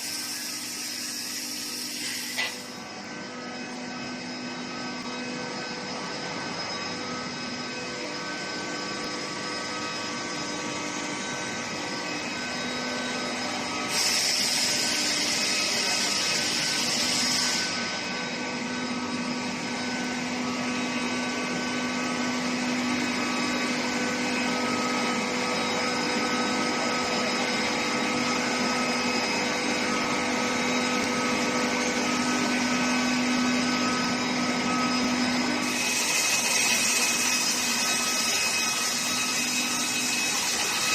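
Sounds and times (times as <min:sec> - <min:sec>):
industrial drone with whining tones: 0:00.0 - 0:40.9.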